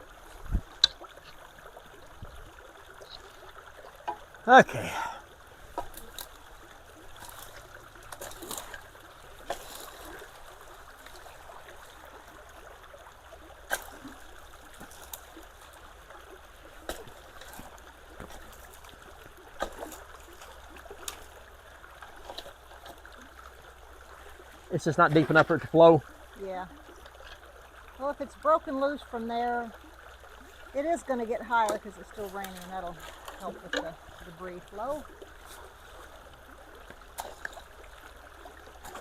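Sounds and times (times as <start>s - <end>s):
creek water trickling: 0.0s - 39.0s
light knocks and splashes: 5.6s - 28.0s, 29.1s - 39.0s.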